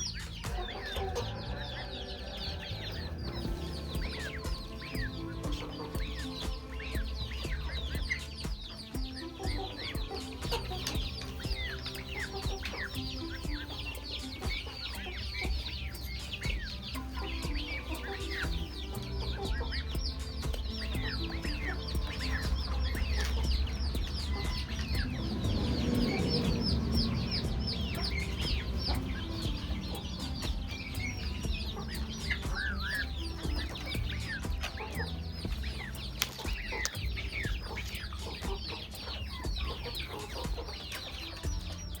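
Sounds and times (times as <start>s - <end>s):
chickens clucking: 0.0s - 42.0s
steady low rumble: 0.0s - 42.0s.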